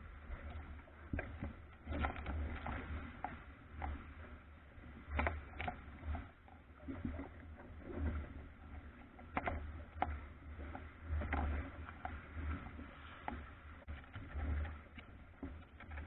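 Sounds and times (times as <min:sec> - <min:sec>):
boat hull slapping through waves: 0:00.0 - 0:16.0
wind rumble on microphone: 0:00.0 - 0:16.0.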